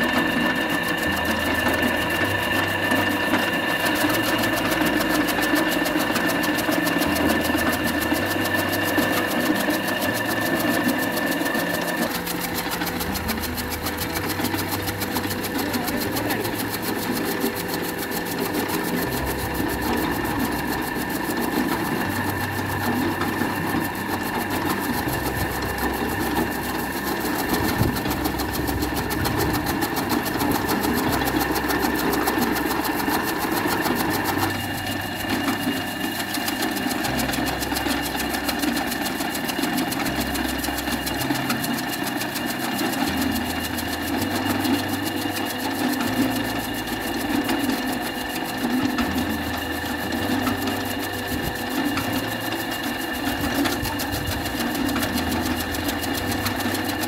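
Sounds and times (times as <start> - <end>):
chaff cutter motor humming: 0.0 - 57.0.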